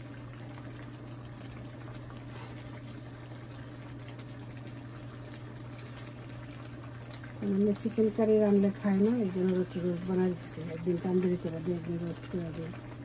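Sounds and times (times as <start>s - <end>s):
sauce bubbling in a frying pan: 0.0s - 13.0s
steady low hum: 0.0s - 13.0s.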